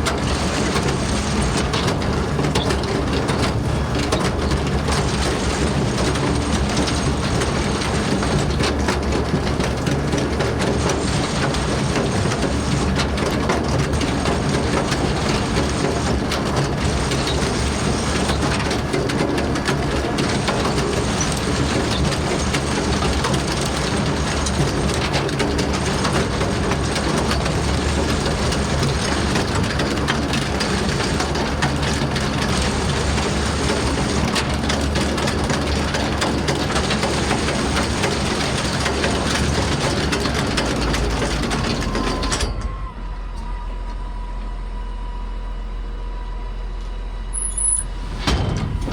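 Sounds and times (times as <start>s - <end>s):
clatter of working machinery: 0.0s - 48.9s
farm vehicle engine running: 0.0s - 48.9s.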